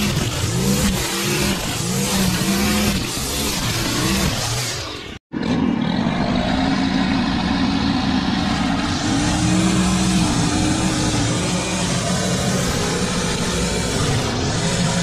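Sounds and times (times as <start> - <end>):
small petrol engine running: 0.0 - 15.0.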